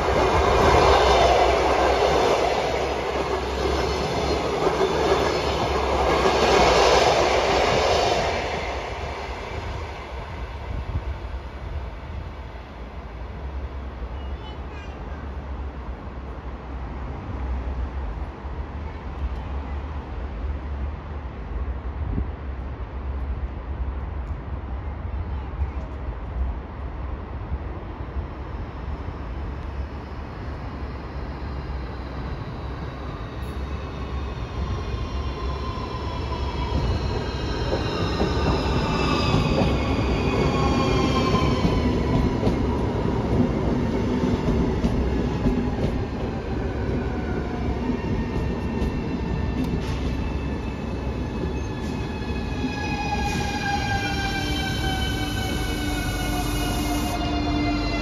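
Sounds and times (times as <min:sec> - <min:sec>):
train wheels rumbling on rails: 0:00.0 - 0:24.6, 0:25.3 - 0:58.0
electric whine of train: 0:00.0 - 0:58.0.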